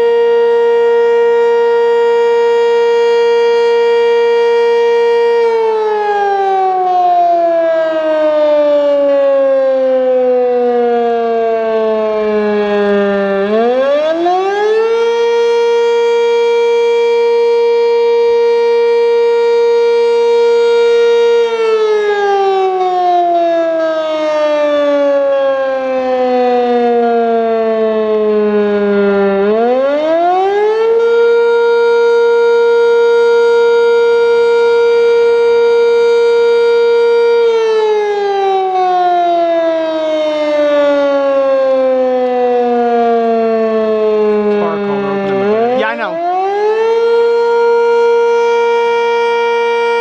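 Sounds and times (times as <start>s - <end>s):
warning siren wailing: 0.0s - 50.0s.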